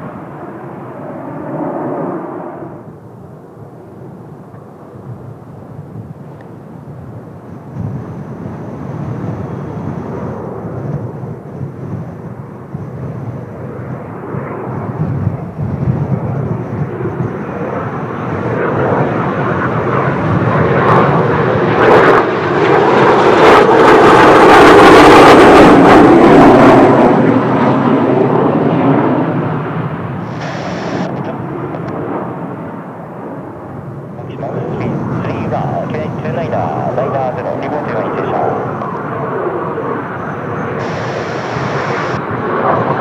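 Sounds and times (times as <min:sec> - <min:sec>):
jet engines passing: 0:00.0 - 0:43.0.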